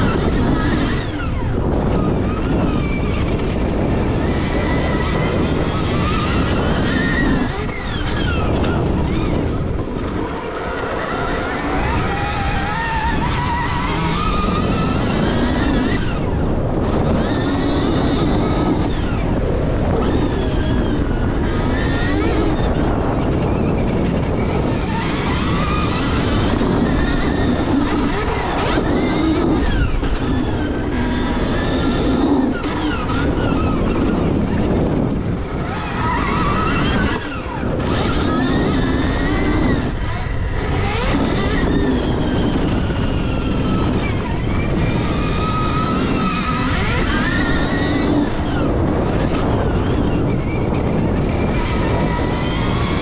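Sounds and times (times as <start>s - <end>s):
electric motorbike motor whining: 0.0s - 53.0s
steady rushing noise: 0.0s - 53.0s.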